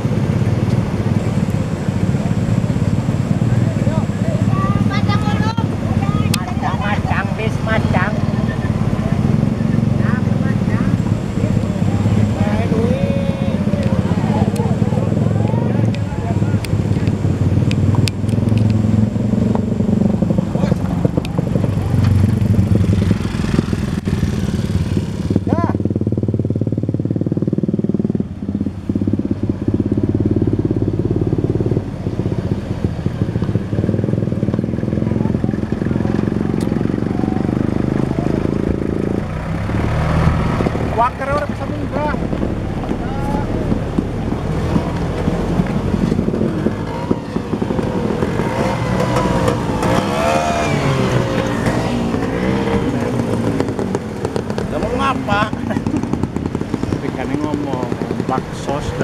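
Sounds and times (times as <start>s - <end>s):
engine running steadily: 0.0s - 59.0s
motorcycle passing: 0.0s - 59.0s.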